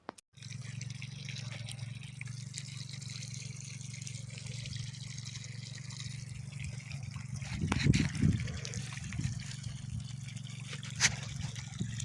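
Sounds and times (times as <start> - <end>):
low hum: 0.4 - 12.0
water trickling and dripping: 0.4 - 12.0.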